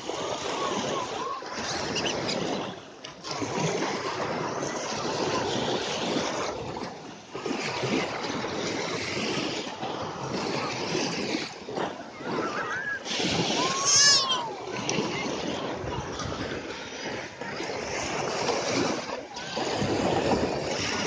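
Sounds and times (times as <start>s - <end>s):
surf washing onto beach: 0.0s - 21.0s
wind on microphone: 0.0s - 21.0s.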